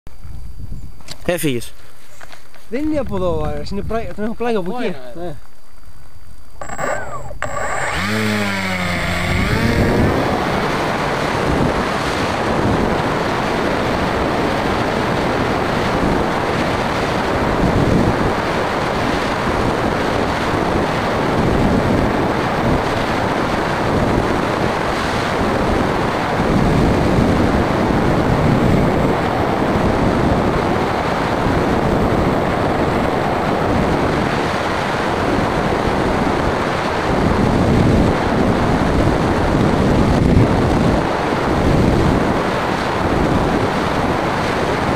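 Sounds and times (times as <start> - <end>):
wind rushing over microphone: 2.7 - 5.3, 6.5 - 44.9
airplane motor and propeller: 6.6 - 44.9.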